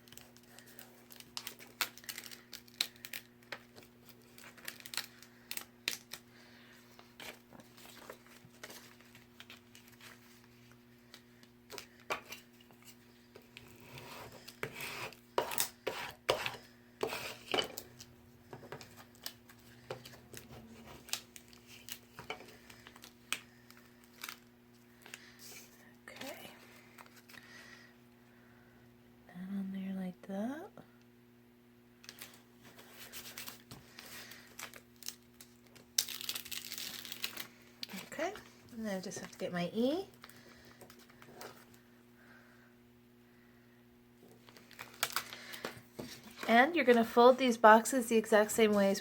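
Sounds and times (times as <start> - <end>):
paper and vinyl rustling: 0.0 - 15.7, 16.3 - 27.6, 32.0 - 41.8, 44.2 - 49.0.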